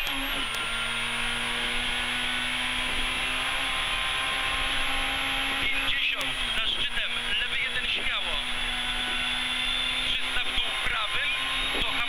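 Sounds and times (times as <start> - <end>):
car engine at high revs: 0.0 - 12.0
road and tyre noise: 0.0 - 12.0.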